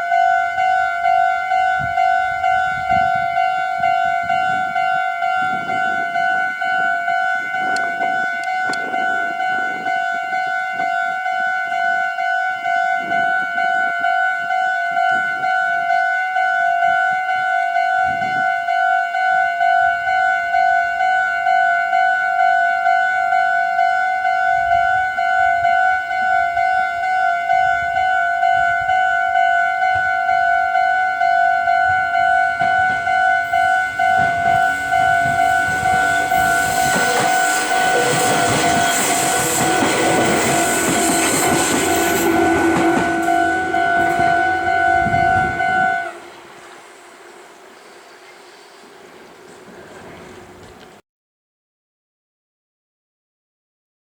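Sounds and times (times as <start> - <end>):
level crossing alarm dinging: 0.0 - 48.4.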